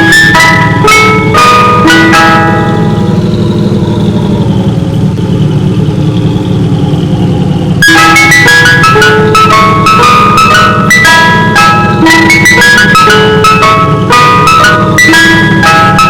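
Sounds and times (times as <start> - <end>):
ice cream truck chime jingle: 0.0 - 16.0
truck engine idling: 0.0 - 16.0.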